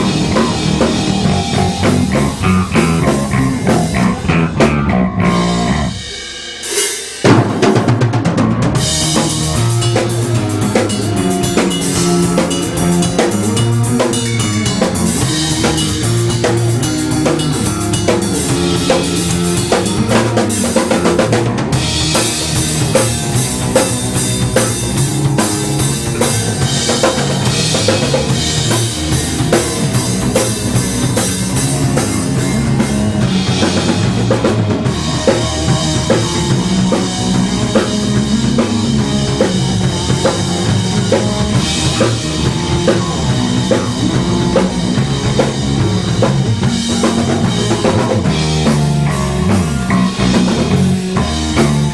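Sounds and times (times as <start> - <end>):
drum kit: 0.0 - 51.9
rock band playing: 0.0 - 51.9.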